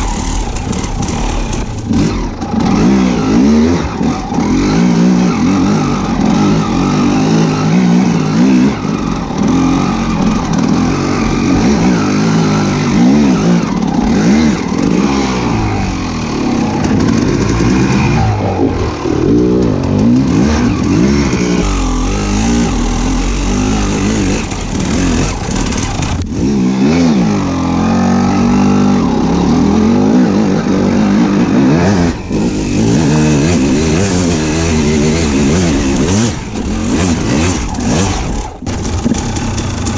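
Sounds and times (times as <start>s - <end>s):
engine revving up and down: 0.0s - 39.9s.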